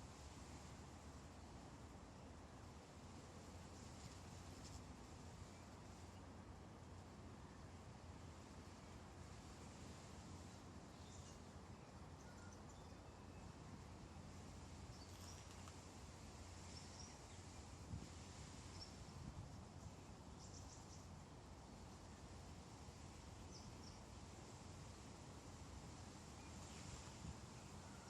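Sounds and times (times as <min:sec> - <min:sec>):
faint outdoor hum: 0:00.0 - 0:28.0.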